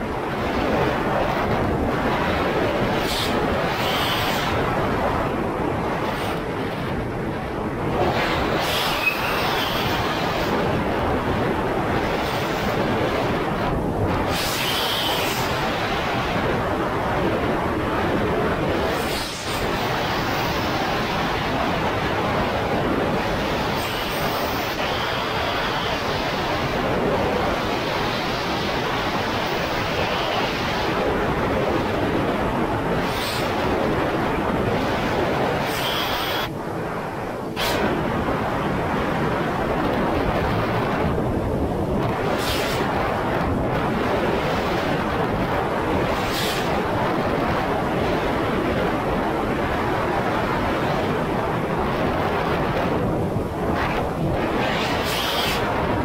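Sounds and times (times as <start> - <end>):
wind and water rushing: 0.0 - 56.0.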